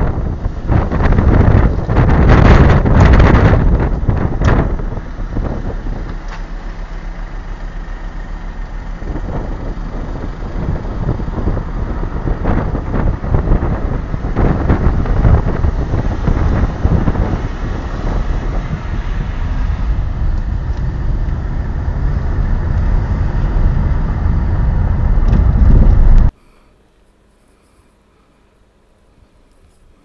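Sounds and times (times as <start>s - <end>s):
car road and wind noise: 0.0s - 26.4s.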